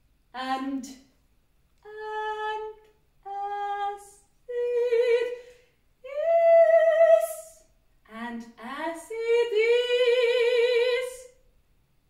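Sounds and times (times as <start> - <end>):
woman singing wordless notes: 0.4 - 1.0, 1.8 - 11.4.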